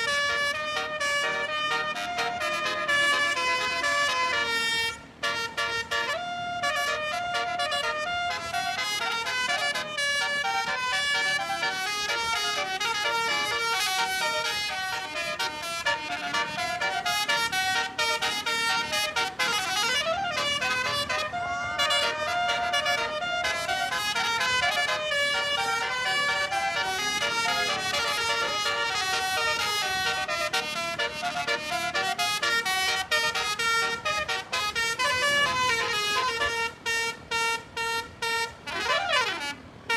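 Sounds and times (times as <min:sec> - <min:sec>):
bus musical horn playing a tune: 0:00.0 - 0:39.9.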